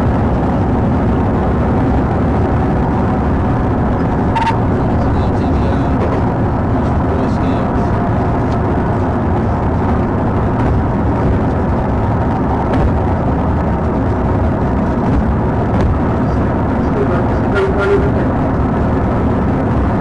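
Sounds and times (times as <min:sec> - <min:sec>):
road and wind noise of speeding car: 0:00.0 - 0:20.0.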